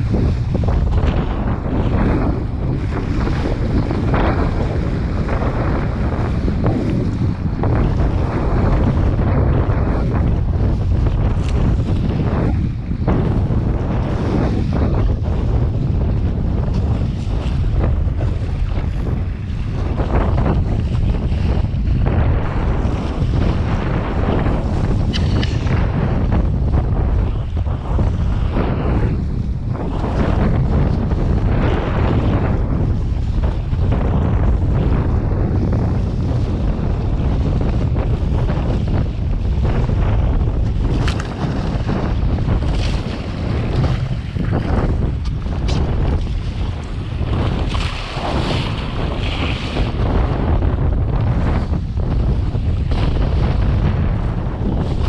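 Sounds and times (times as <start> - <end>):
water splashing along boat hull: 0.0 - 55.0
wind buffeting microphone: 0.0 - 55.0.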